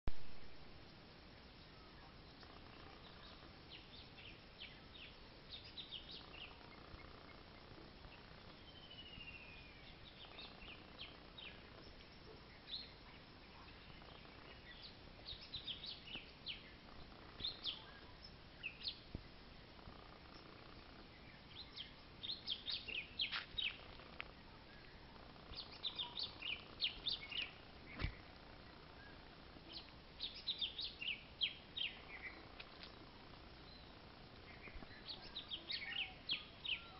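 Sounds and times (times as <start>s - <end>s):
faint outdoor hiss: 0.1s - 36.9s
small birds chirping: 0.6s - 36.9s.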